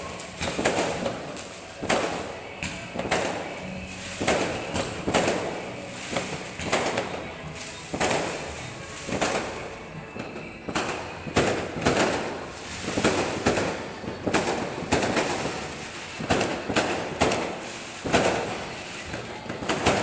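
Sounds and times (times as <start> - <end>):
fireworks bangs with echo: 0.0 - 20.0.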